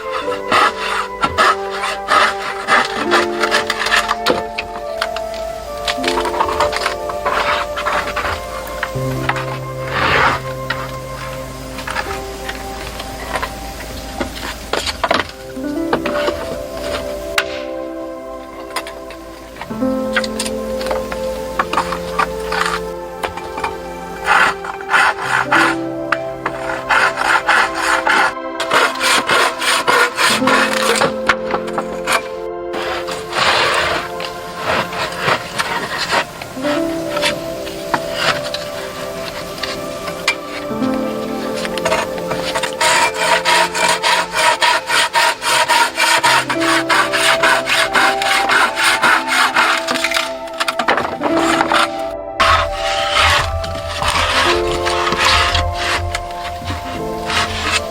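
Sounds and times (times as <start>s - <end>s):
background music: 0.0s - 57.9s
hand tool scraping wood: 0.0s - 57.9s.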